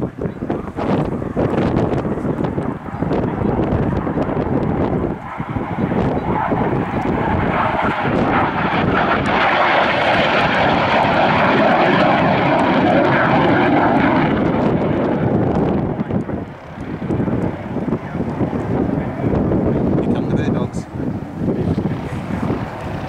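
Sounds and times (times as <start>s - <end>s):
jet aircraft rushing past: 0.0s - 23.0s.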